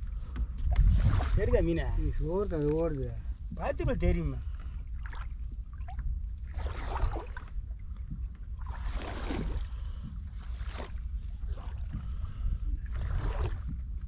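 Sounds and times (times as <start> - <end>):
steady low rumble: 0.0 - 14.0
water lapping against boat hull: 0.0 - 14.0.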